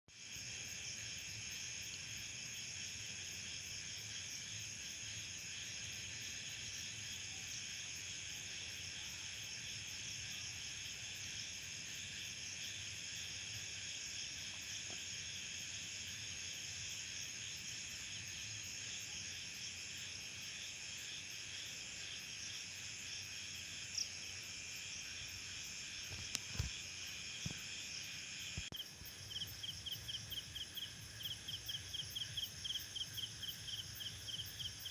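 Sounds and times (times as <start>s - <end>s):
crickets and insects trilling: 0.2s - 34.9s.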